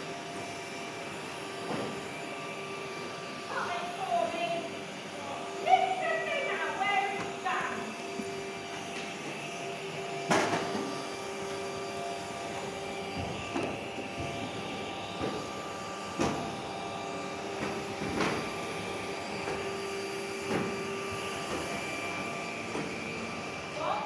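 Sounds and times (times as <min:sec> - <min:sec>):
vacuum cleaner whine: 0:00.0 - 0:24.0.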